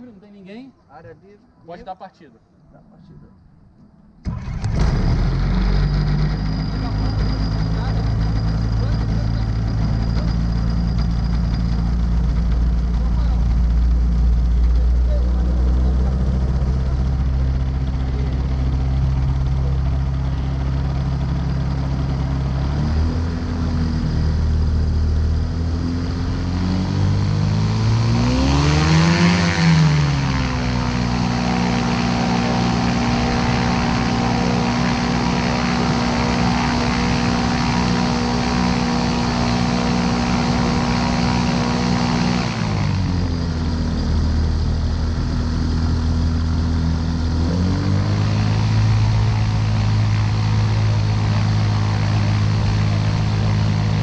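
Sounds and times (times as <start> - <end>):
aircraft engine and propeller: 4.2 - 54.0.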